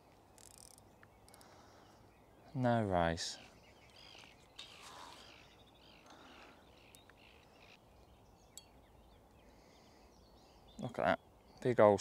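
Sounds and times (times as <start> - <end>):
faint songbirds chirping: 0.0 - 12.0.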